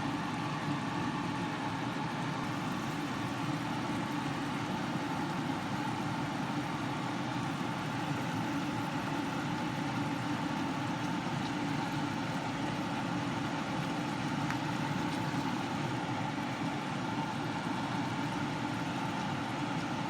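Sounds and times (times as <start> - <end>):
motor or fan humming: 0.0 - 20.0.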